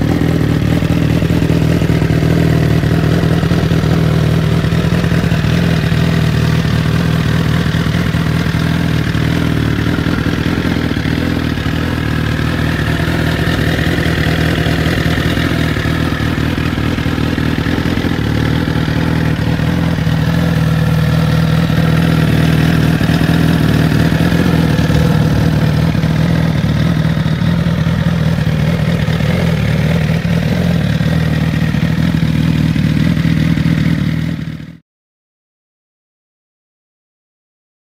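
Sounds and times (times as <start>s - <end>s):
motorcycle engine idling: 0.0s - 34.8s.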